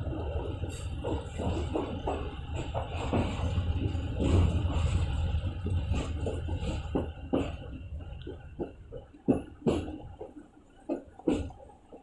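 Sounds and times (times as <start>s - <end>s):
low train rumble: 0.0s - 12.0s
train wheels clacking over rail joints: 0.0s - 12.0s.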